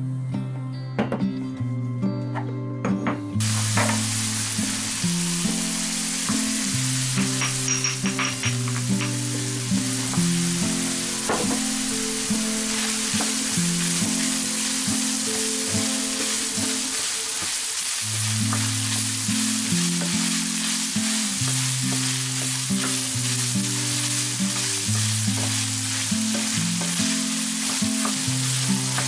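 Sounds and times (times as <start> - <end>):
background music: 0.0 - 29.0
meat sizzling in a pan: 3.4 - 29.0.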